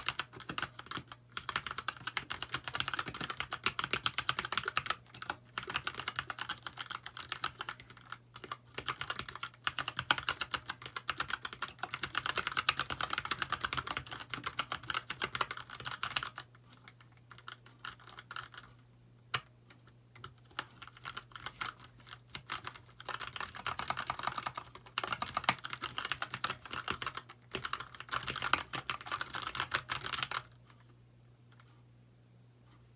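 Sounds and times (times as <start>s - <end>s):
mechanical keyboard typing: 0.0s - 18.7s, 19.3s - 30.5s.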